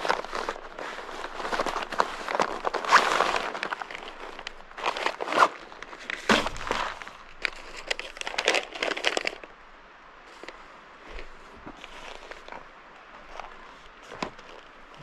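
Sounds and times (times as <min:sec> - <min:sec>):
plastic packaging rustling: 0:00.0 - 0:09.5, 0:10.3 - 0:15.0.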